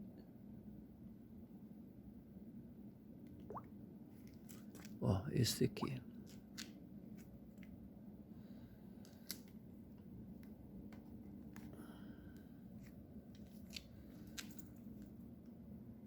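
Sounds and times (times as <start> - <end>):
faint machinery hum: 0.0 - 16.0.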